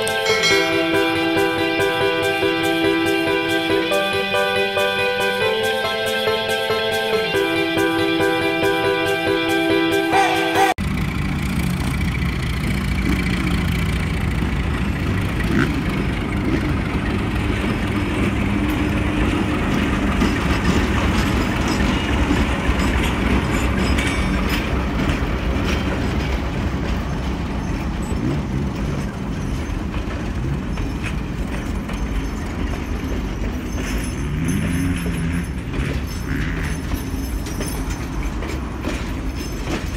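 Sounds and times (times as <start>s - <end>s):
carriages rolling with wheel clicks: 0.0s - 8.8s, 10.1s - 39.9s
diesel locomotive engine running: 0.0s - 39.9s.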